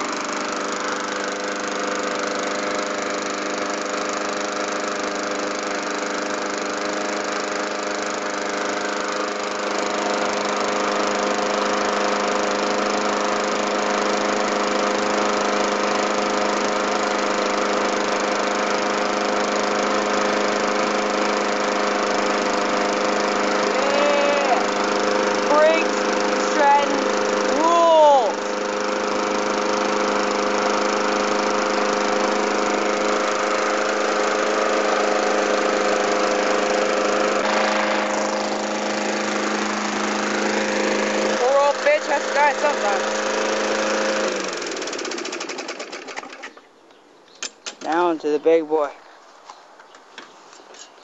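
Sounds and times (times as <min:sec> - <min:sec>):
small engine running: 0:00.0 - 0:46.8.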